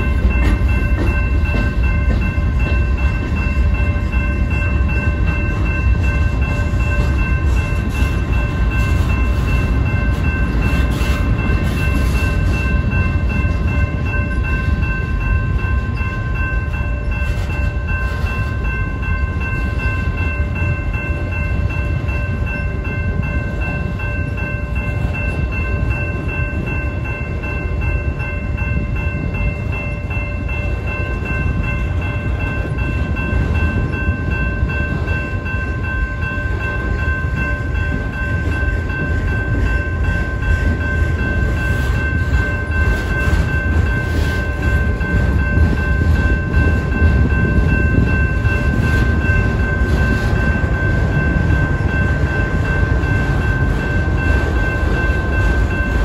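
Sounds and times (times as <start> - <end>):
crossing warning bell: 0.0 - 56.0
train wheels rumbling on rails: 0.0 - 56.0.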